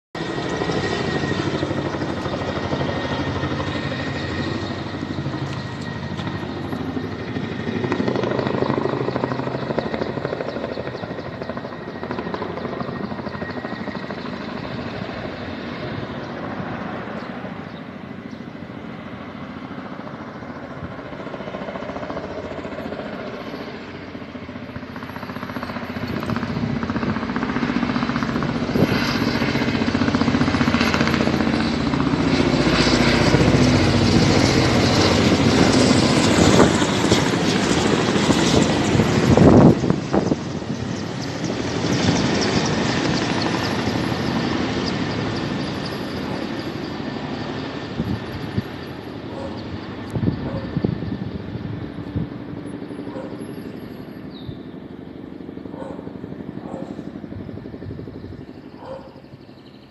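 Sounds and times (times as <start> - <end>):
helicopter rotor droning: 0.2 - 59.9.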